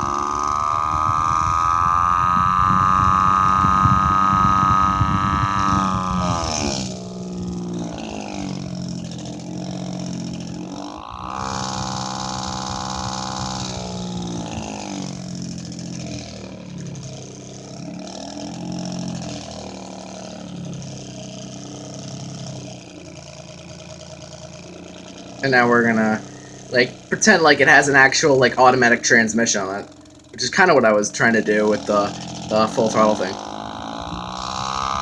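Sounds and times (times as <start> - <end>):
desk fan motor hum: 0.0 - 35.0.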